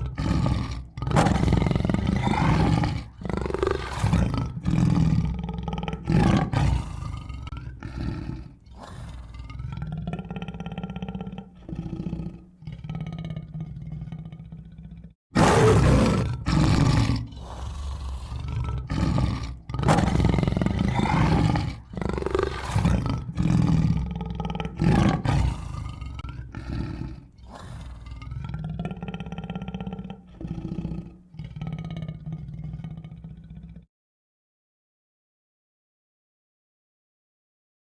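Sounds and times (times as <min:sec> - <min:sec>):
tiger growling: 0:00.0 - 0:33.9
tiger roaring: 0:00.0 - 0:33.9.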